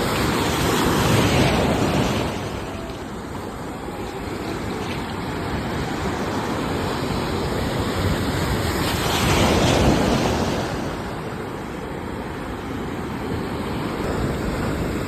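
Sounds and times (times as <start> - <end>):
sea waves surf rush: 0.0 - 15.0.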